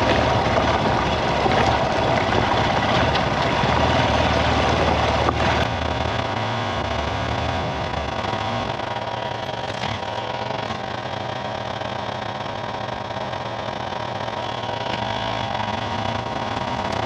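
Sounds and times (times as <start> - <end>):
tyres rolling over gravel: 0.0 - 17.0
vehicle engine running: 0.0 - 17.0.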